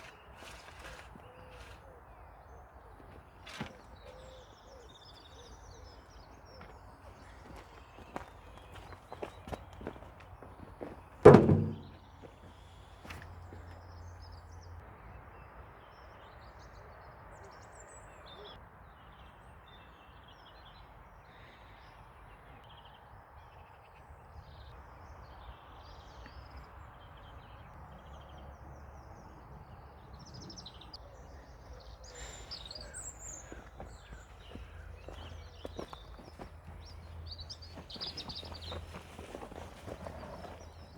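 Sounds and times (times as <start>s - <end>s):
small birds chirping and singing: 0.0s - 11.0s, 15.4s - 40.9s.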